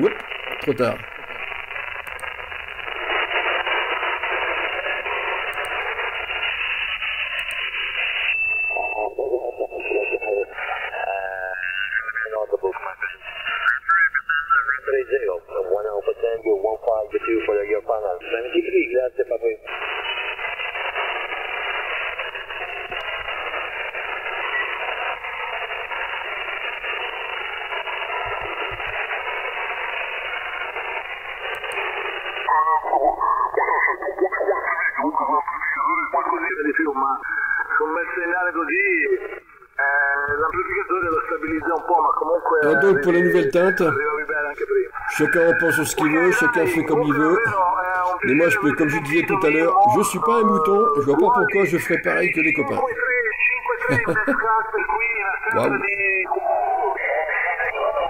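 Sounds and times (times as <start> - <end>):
garbled radio voices: 0.0 - 6.2, 8.6 - 30.8, 31.4 - 58.0
radio whistle: 0.0 - 11.3, 19.6 - 58.0
radio static hiss: 0.0 - 58.0.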